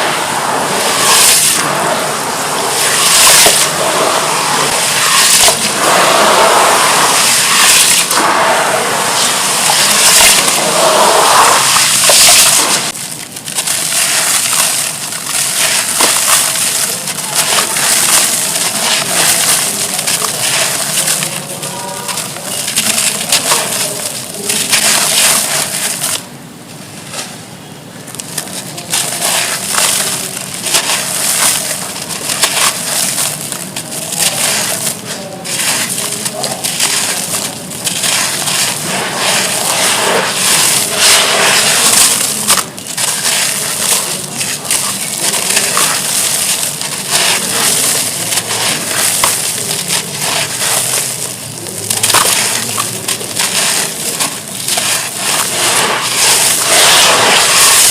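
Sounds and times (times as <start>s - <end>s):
charcoal crumbling and crunching: 0.0s - 27.3s, 28.0s - 57.9s.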